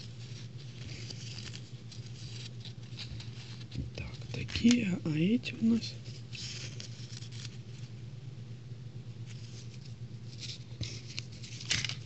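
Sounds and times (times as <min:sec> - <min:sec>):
paper rustling: 0:00.0 - 0:05.0, 0:05.7 - 0:08.0, 0:09.2 - 0:12.0
steady low hum: 0:00.0 - 0:12.0.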